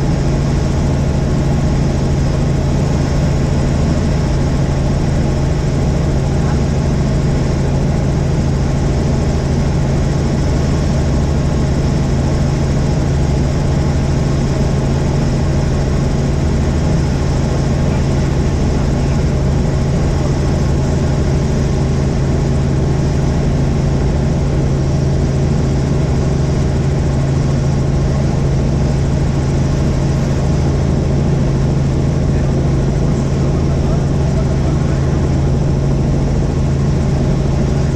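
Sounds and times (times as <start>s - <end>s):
helicopter rotor and engine drone: 0.0s - 37.9s.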